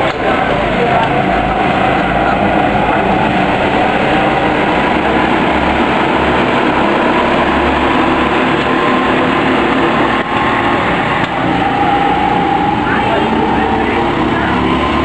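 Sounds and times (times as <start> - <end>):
racing kart engines droning: 0.0 - 15.0.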